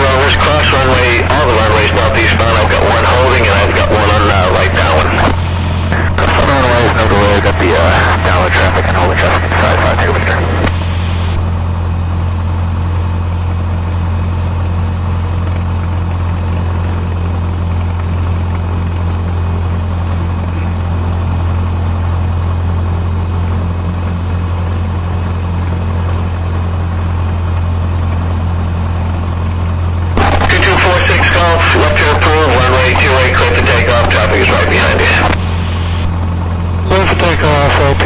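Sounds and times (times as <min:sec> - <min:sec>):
aircraft piston engine droning: 0:00.0 - 0:38.0.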